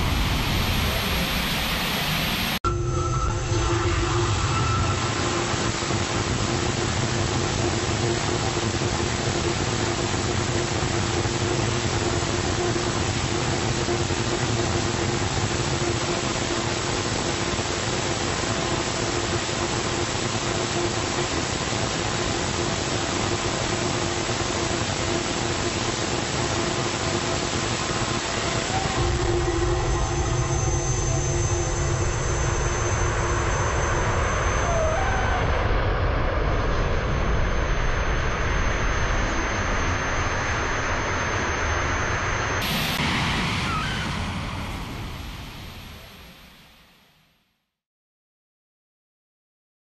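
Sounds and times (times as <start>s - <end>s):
rocket engine exhaust roar: 0.0s - 2.6s, 3.3s - 46.7s
faint hum: 0.0s - 46.9s.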